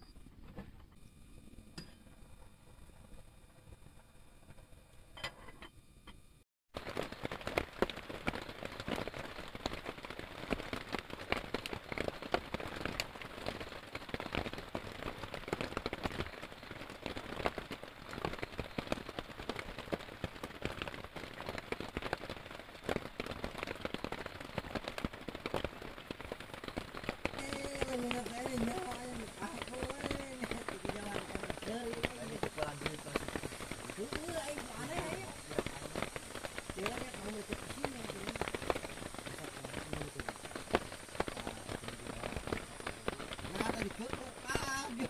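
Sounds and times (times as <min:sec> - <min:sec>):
heavy rain pattering: 0:06.7 - 0:45.0.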